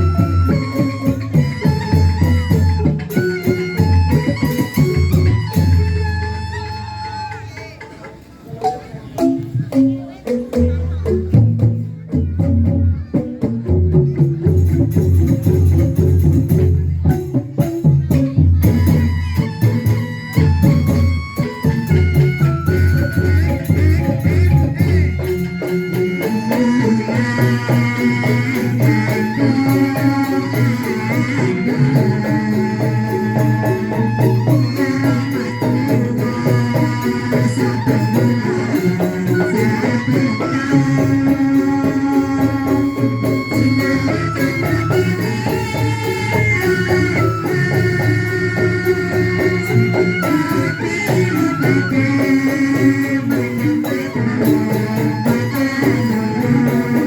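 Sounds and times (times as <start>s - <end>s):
instrumental music with melody: 0.0s - 57.0s
rattling percussion rhythm: 0.0s - 57.0s.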